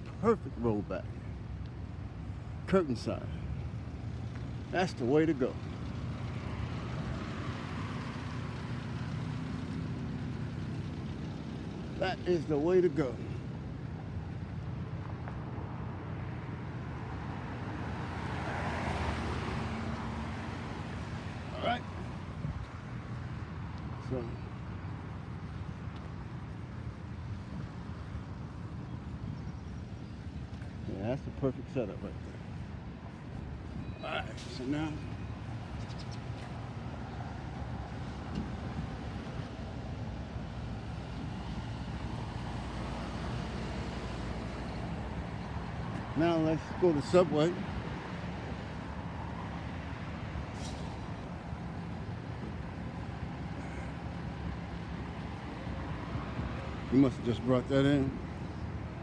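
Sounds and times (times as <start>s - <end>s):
road noise: 0.0s - 59.0s
vehicle engine hum: 0.0s - 59.0s.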